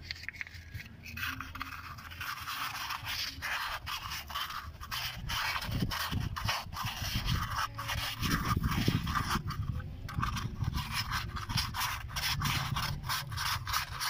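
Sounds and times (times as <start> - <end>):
sandpaper rasping on metal: 0.1 - 14.0.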